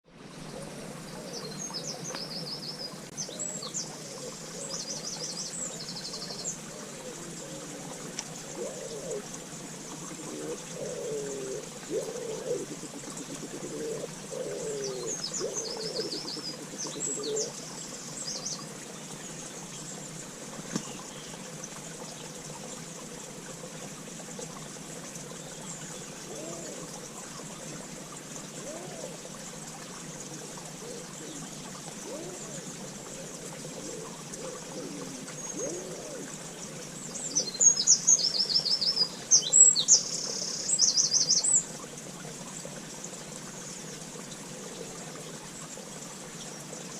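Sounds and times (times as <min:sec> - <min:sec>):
steady background hiss: 0:00.1 - 0:46.9.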